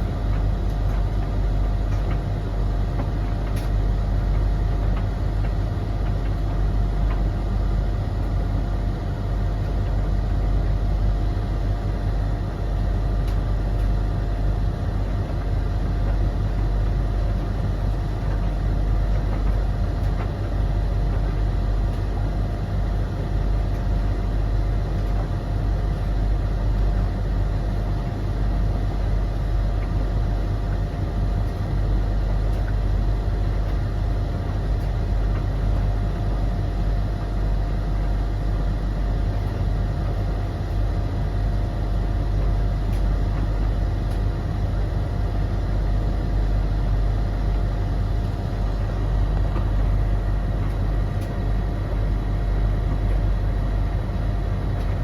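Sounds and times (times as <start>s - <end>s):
faint constant whine: 0.0s - 55.0s
tumble dryers humming and whirring: 0.0s - 55.0s.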